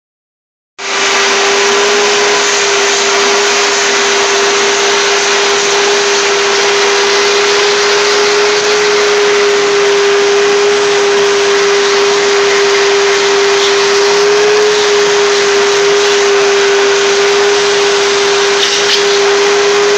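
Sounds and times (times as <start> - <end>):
shop vacuum running: 0.8 - 19.9.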